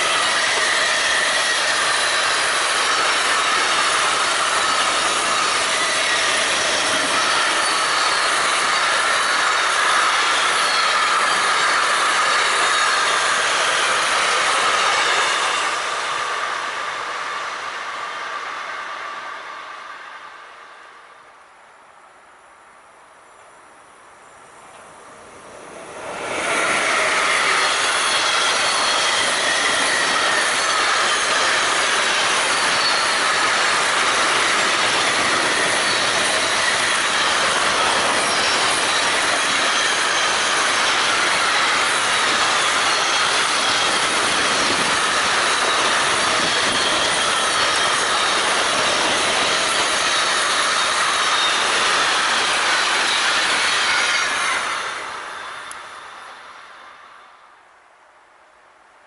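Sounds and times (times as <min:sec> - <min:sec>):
wheels squealing: 0:00.0 - 0:16.3, 0:25.5 - 0:56.7
freight train wheels rushing: 0:00.0 - 0:22.1, 0:24.2 - 0:57.6.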